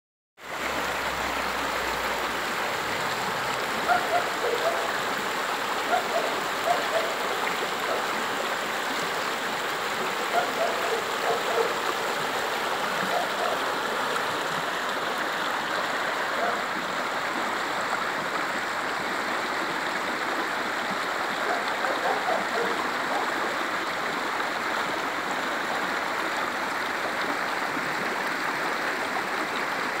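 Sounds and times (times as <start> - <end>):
river rushing over stones: 0.4 - 30.0
water gurgles: 0.4 - 30.0.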